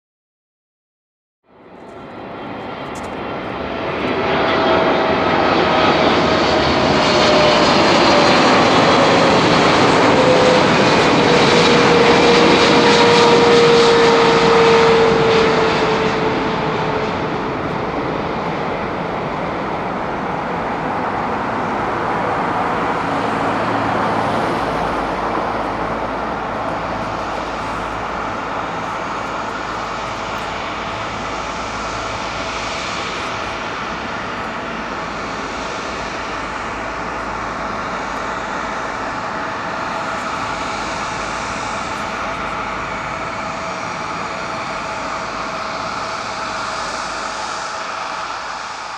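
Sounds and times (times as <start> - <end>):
jet airliner passing: 1.6 - 48.9
whining engine tone: 1.8 - 48.9.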